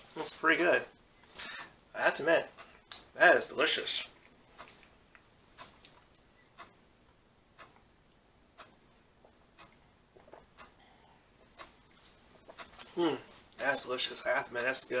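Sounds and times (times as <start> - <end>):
clock ticking: 1.4 - 10.8, 11.4 - 15.0.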